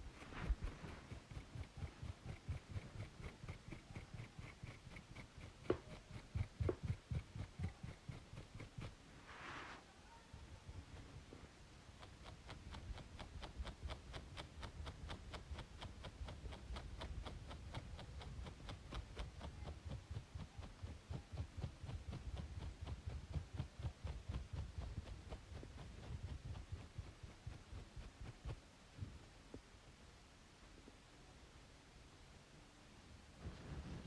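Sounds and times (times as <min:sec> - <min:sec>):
scratching on scalp: 0:00.0 - 0:29.2, 0:33.4 - 0:34.0
white noise hiss: 0:00.0 - 0:34.0.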